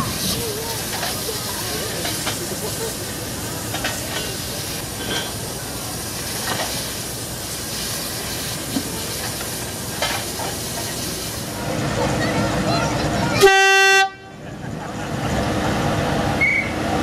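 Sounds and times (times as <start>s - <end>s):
steam locomotive hissing steam: 0.0s - 13.8s.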